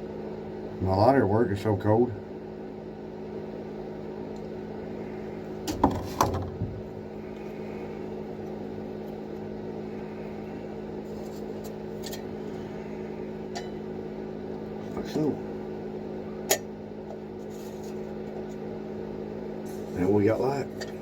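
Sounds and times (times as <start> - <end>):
electric heater humming: 0.0 - 21.0.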